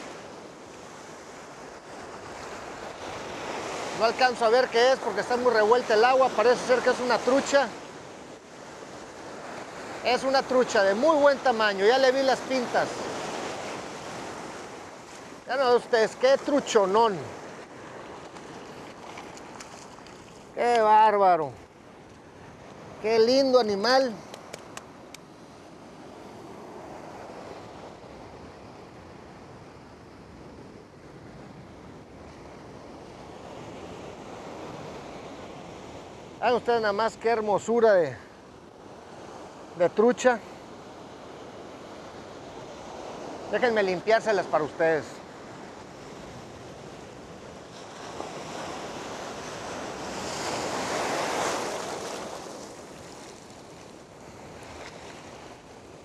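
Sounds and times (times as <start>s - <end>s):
surf washing onto beach: 0.0s - 56.0s.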